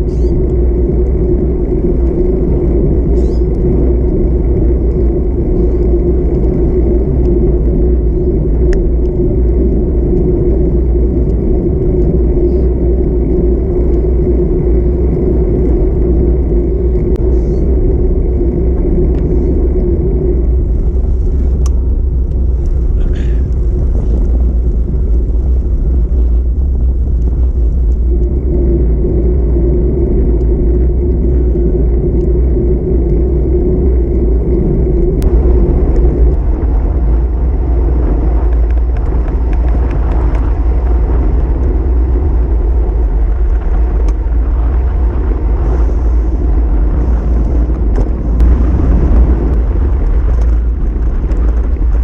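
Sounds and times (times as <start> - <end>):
low hum: 0.0 - 52.0
tyres rolling on asphalt: 0.0 - 52.0
wind on microphone: 0.0 - 52.0.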